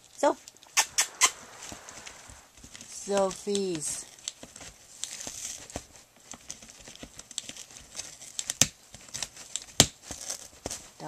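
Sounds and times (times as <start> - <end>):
puppy chewing cardboard: 0.4 - 11.0.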